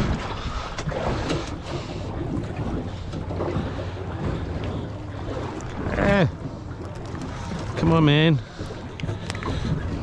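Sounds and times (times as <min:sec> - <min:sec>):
water lapping against boat: 0:00.0 - 0:10.0.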